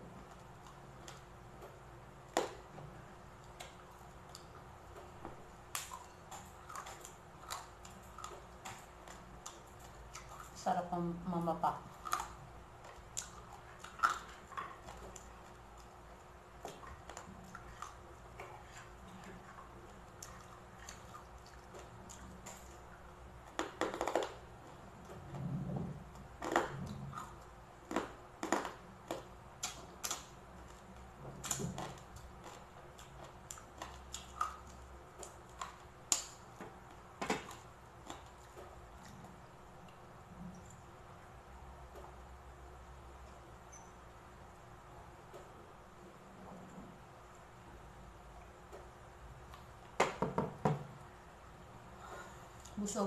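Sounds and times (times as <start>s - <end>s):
crunching and chewing food: 0.0s - 50.2s.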